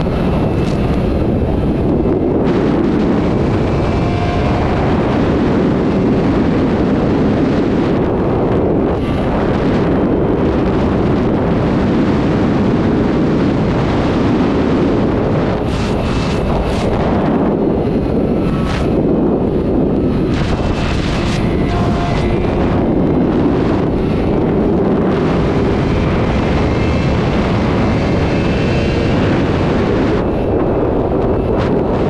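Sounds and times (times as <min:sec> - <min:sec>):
wind rush on microphone: 0:00.0 - 0:32.0.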